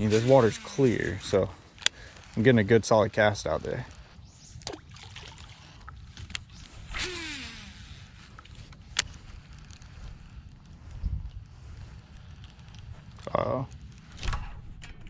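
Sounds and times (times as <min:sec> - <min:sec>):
fishing reel spool whirring: 0:00.0 - 0:13.3.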